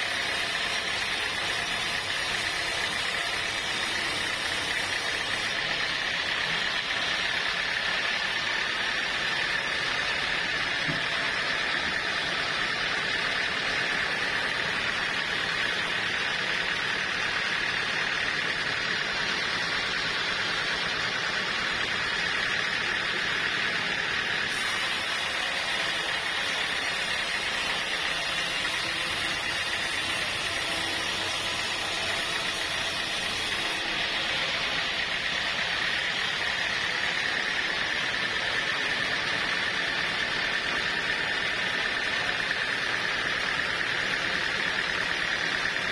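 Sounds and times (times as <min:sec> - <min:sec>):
sawmill saw whirring: 0:00.0 - 0:45.9.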